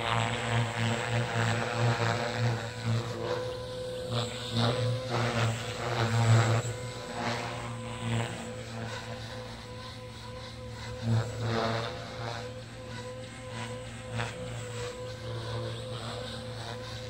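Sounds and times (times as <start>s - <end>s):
model helicopter motor and rotor whine: 0.0s - 17.0s.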